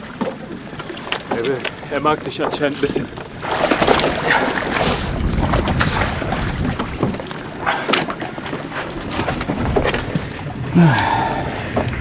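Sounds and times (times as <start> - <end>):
sea water slapping around boat: 0.0 - 12.0
wind buffeting microphone: 1.8 - 12.0.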